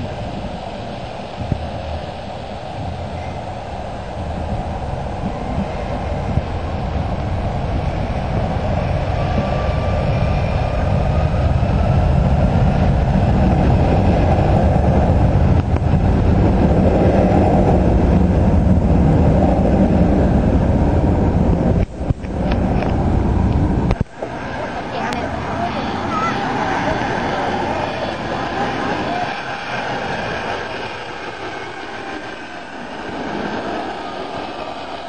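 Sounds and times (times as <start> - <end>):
faint rising engine whine: 0.0 - 35.0
jet engines rumbling: 0.0 - 35.0.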